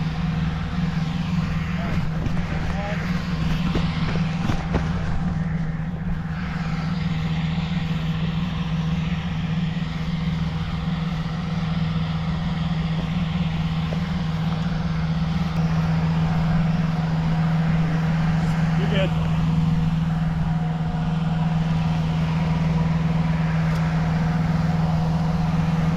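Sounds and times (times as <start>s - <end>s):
fan engine humming: 0.0s - 25.9s.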